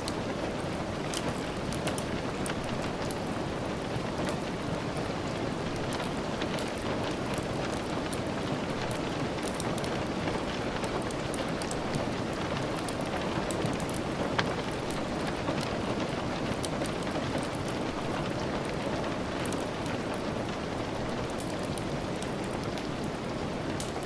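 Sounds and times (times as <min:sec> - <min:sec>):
log fire crackling: 0:00.0 - 0:24.0
steady rain: 0:00.0 - 0:24.0.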